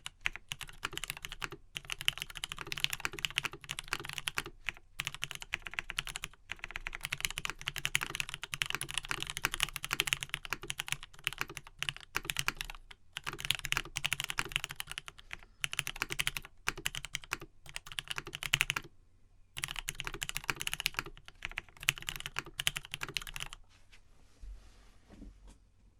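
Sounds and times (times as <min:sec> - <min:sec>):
fast typing on mechanical keyboard: 0:00.0 - 0:18.9, 0:19.6 - 0:23.6.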